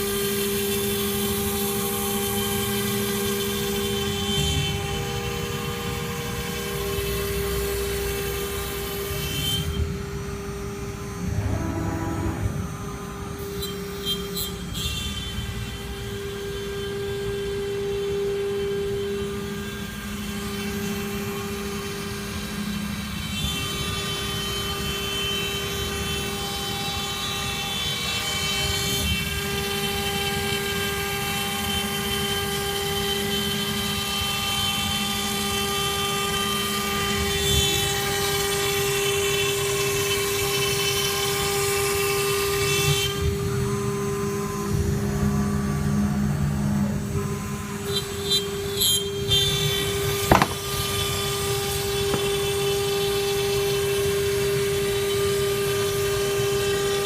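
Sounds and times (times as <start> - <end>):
router spindle high-pitched whine: 0.0 - 57.0.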